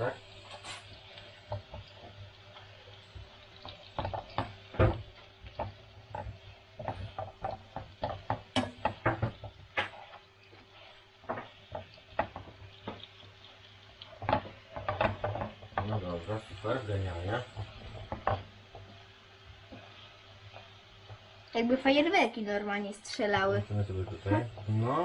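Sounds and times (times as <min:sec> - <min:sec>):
hot fat spitting in a frying pan: 0:00.0 - 0:25.0.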